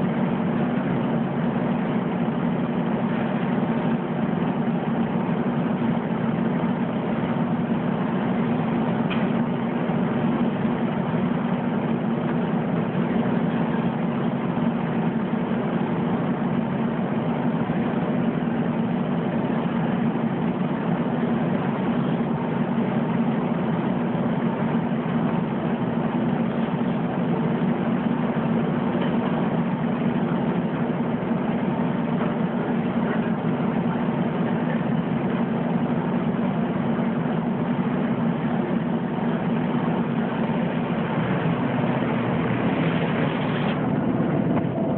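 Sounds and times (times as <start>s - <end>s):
washing machines humming: 0.0s - 44.9s.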